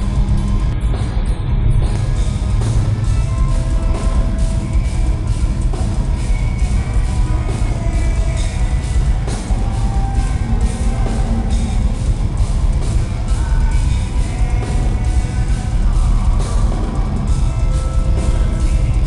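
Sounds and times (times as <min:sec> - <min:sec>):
bass guitar: 0:00.0 - 0:19.0
distorted electric guitars: 0:00.0 - 0:19.0
drum kit snare and cymbals: 0:00.0 - 0:19.0.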